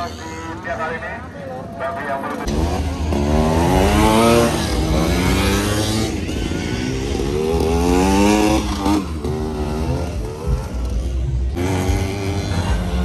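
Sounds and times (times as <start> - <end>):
scooter engines revving: 0.0 - 13.0.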